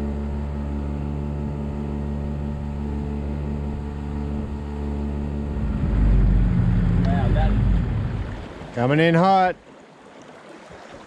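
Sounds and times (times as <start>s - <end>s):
outboard motor hum: 0.0s - 11.0s
wind and water hiss: 0.0s - 11.0s.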